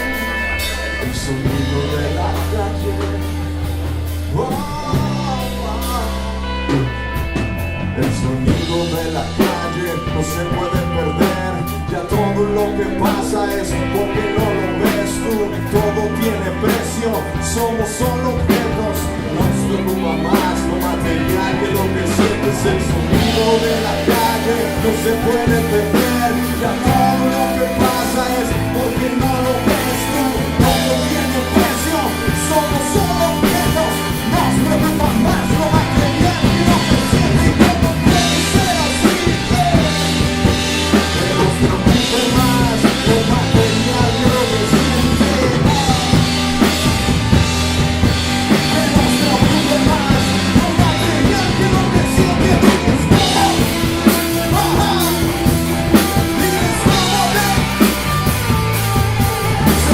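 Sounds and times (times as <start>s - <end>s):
bass guitar: 0.0s - 59.9s
driving drum kit: 0.0s - 59.9s
electric guitar lines: 0.0s - 59.9s.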